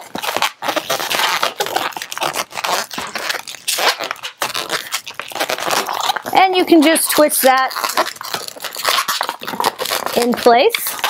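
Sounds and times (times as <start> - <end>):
balloons rubbing and scraping: 0.0 - 11.0.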